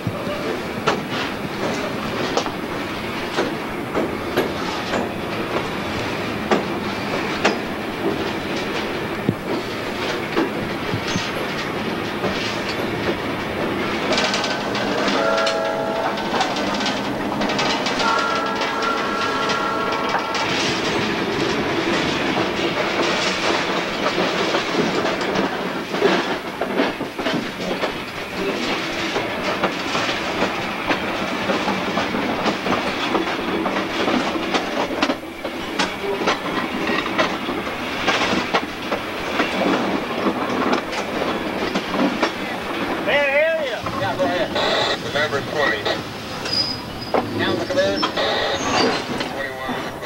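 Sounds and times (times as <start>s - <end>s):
train wheels clacking over rail joints: 0.0s - 50.0s.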